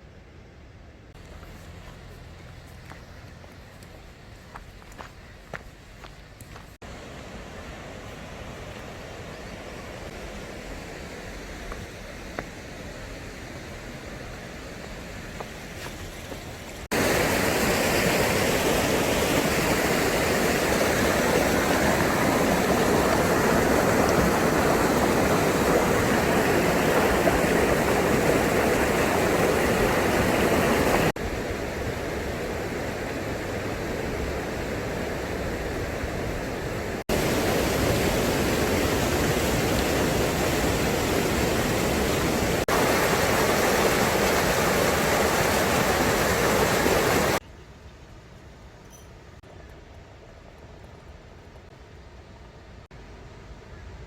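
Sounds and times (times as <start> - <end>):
stream rushing: 1.1 - 47.4.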